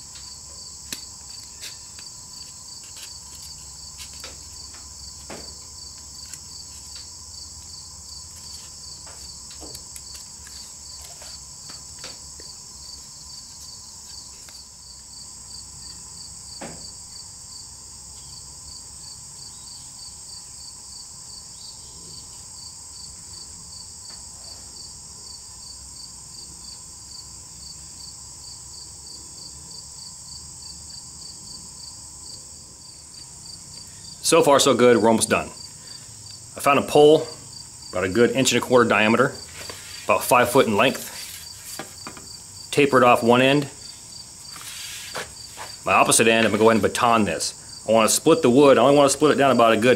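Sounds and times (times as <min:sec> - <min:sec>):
insect chirp: 0:00.0 - 0:49.9
insects singing chorus: 0:00.0 - 0:49.9.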